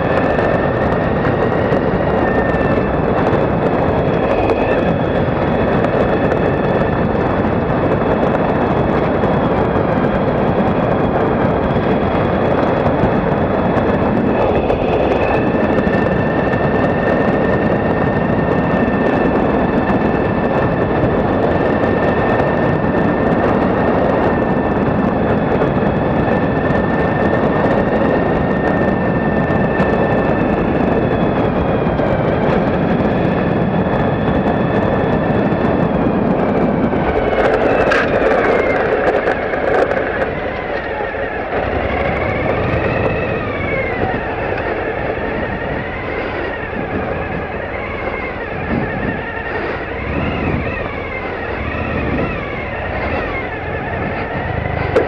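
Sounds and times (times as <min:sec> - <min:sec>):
motorcycle engine whine: 0:00.0 - 0:55.0.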